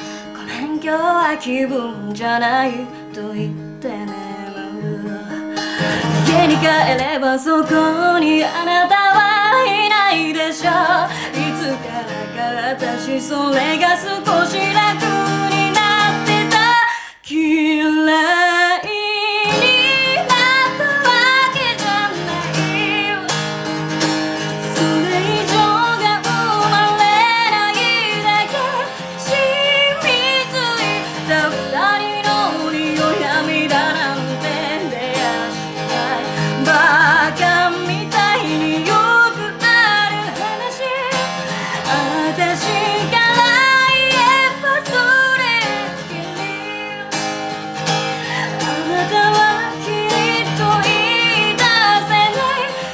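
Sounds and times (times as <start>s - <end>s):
strummed acoustic guitar: 0.0s - 17.1s, 18.1s - 52.9s
woman singing a slow ballad: 0.0s - 23.4s, 24.4s - 52.9s.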